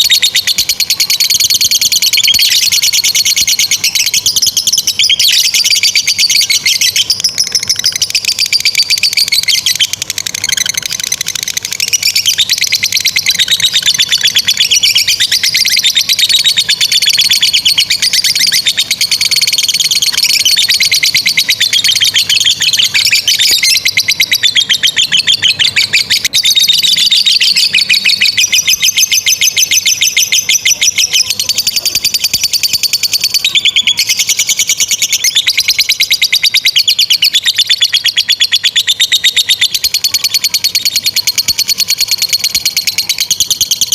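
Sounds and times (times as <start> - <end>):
lovebirds chattering trill: 0.0 - 43.9.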